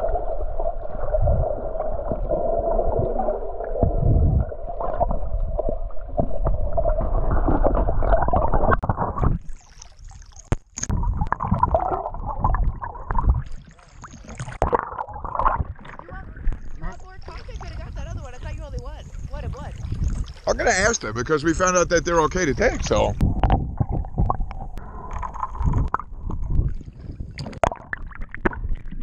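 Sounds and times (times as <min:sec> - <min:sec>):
underwater gurgling and bubbling: 0:00.0 - 0:20.9, 0:22.4 - 0:29.0.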